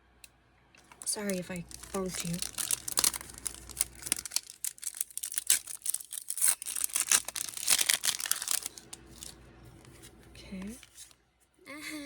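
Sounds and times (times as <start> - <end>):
foil wrapper crinkling and tearing: 0.8 - 11.2.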